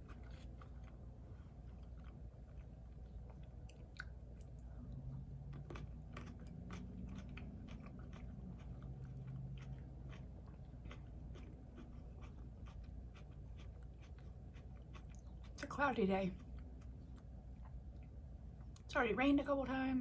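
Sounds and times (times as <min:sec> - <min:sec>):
person chewing food: 0:00.0 - 0:15.6, 0:16.4 - 0:18.8
low steady hum: 0:00.0 - 0:20.0.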